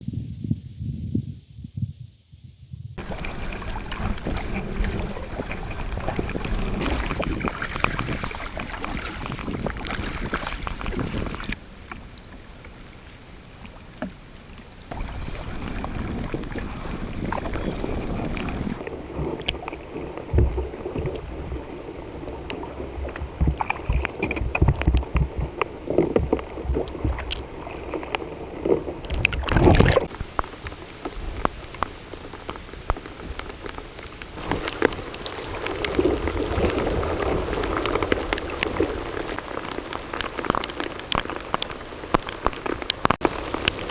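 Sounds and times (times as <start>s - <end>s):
wind buffeting microphone: 0.0s - 11.7s, 14.9s - 43.9s
rain on water: 3.0s - 43.9s
water sloshing against boat: 3.0s - 43.9s.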